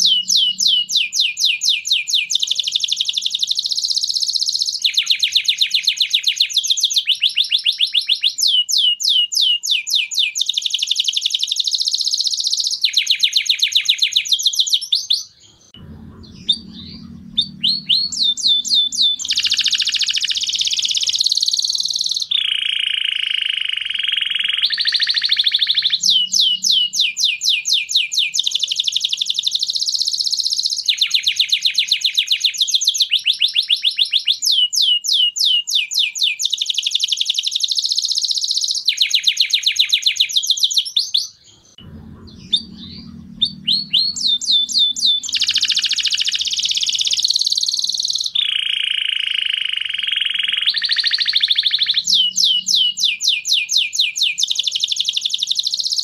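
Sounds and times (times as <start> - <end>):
canary singing rapid trills: 0.0 - 56.0.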